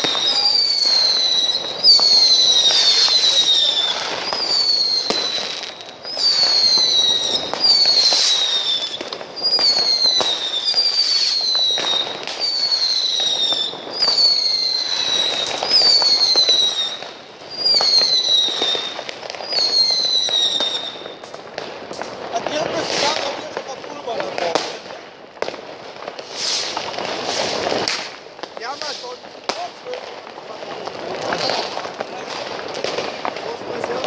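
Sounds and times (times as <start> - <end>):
firework cracks and bangs: 0.0 - 34.0
whistling firework shots: 0.0 - 34.0.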